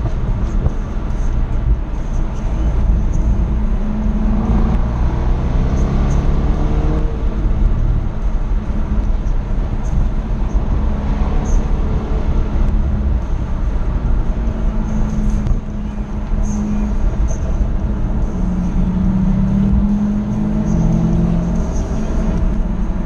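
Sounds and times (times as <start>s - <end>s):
car engine revving: 0.0s - 23.0s
road noise rumble: 0.0s - 23.0s.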